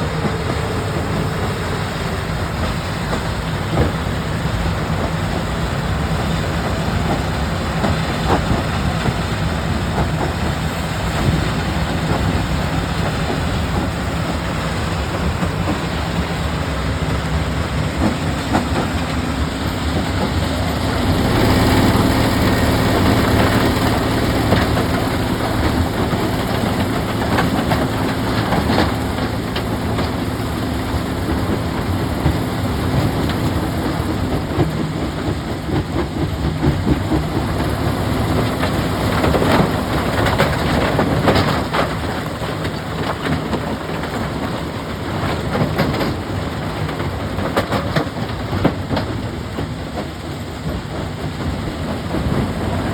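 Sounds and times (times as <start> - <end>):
heavy machine engine running: 0.0 - 52.9.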